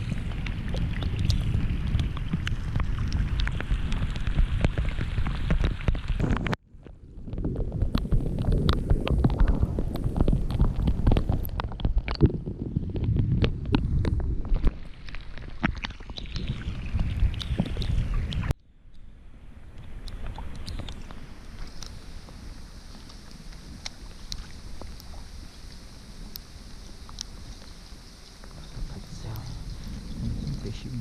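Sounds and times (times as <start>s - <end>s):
rain drops hitting: 0.0s - 31.0s
wind buffeting microphone: 0.0s - 31.0s.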